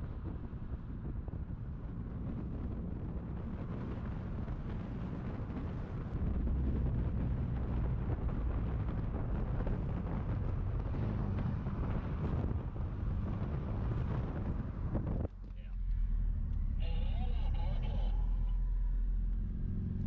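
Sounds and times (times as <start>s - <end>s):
wind buffeting microphone: 0.0s - 16.4s
car engine and road noise: 0.0s - 20.0s.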